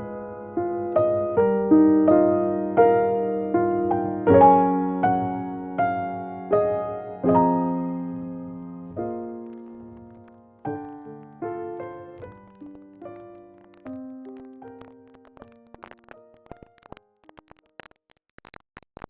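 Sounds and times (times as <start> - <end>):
gentle piano music: 0.0 - 17.2.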